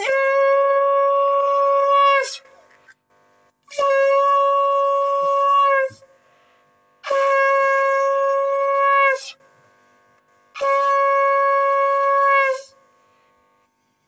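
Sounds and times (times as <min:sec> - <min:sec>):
conch shell blown: 0:00.0 - 0:03.0, 0:03.6 - 0:14.0.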